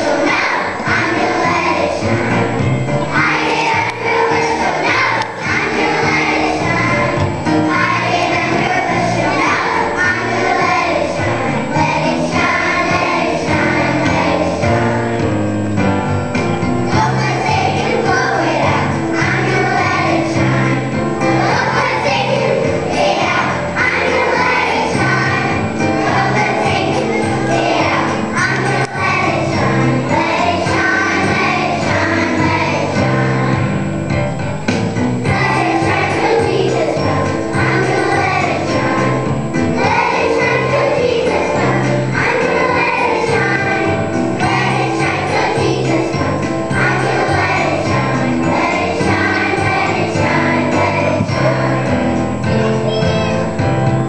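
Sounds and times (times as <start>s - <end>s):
children's choir singing: 0.0s - 54.0s
instrumental accompaniment: 0.0s - 54.0s.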